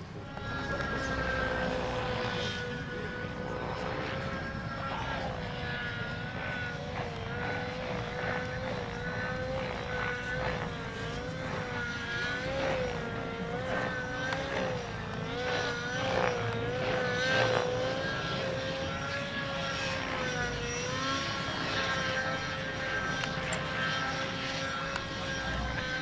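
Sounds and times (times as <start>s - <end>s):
model helicopter turbine whine: 0.0s - 26.0s.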